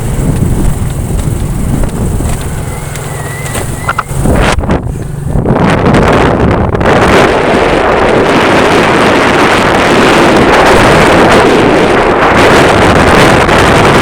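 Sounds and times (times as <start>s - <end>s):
wind blowing across microphone: 0.0s - 14.0s.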